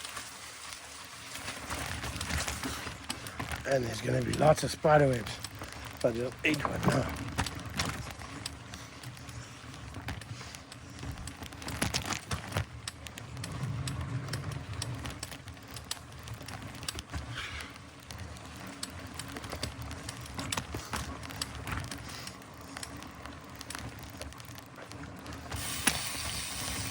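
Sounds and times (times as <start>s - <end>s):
bike clicking and rattling: 0.0s - 26.9s
bike tyres rumbling on dirt: 0.0s - 26.9s.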